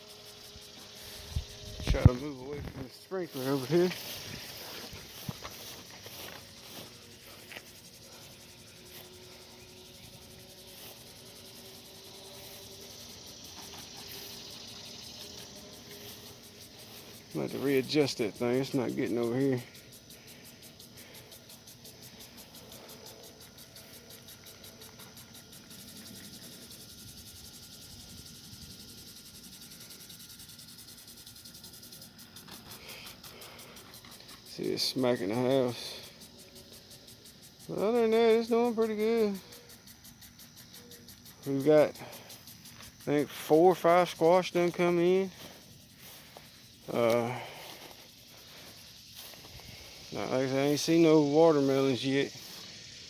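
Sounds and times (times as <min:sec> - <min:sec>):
insects trilling: 0:00.0 - 0:53.0
steady hiss: 0:00.0 - 0:53.0.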